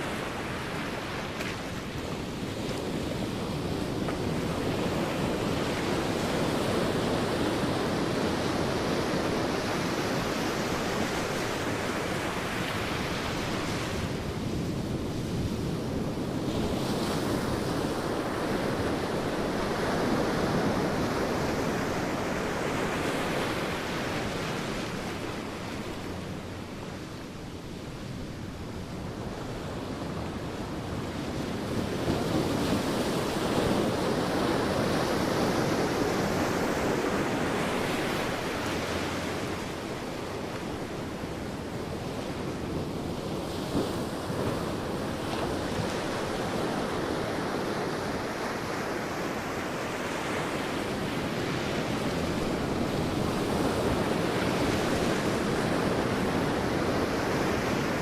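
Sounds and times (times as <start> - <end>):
sea waves breaking on beach: 0.0 - 58.0.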